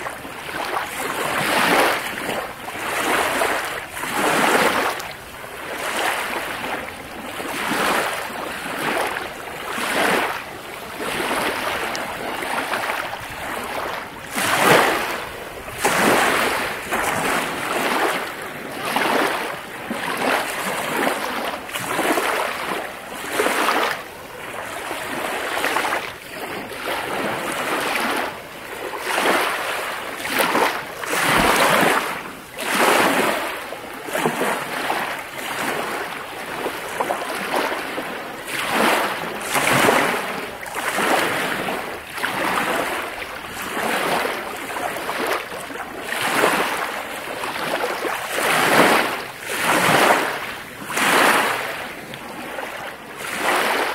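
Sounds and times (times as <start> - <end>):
lake waves washing in: 0.0 - 53.9.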